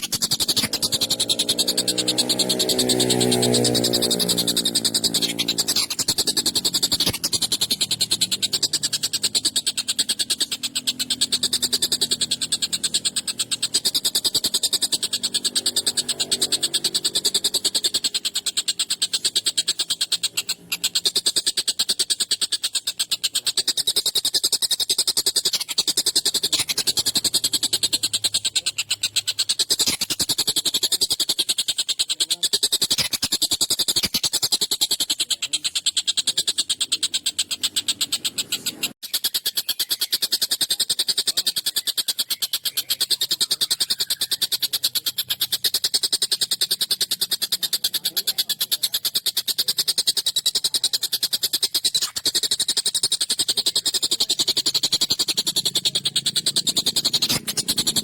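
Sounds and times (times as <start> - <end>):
kingfisher rattling chatter: 0.0 - 58.0.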